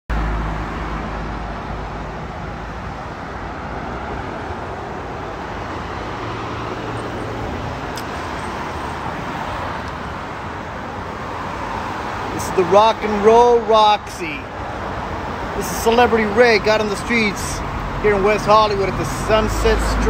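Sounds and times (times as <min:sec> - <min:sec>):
road traffic passing cars: 0:00.1 - 0:20.0.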